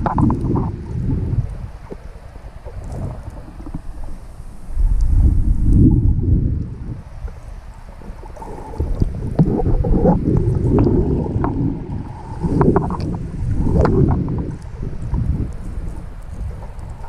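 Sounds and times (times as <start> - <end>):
muffled underwater water rushing: 0.0 - 17.0.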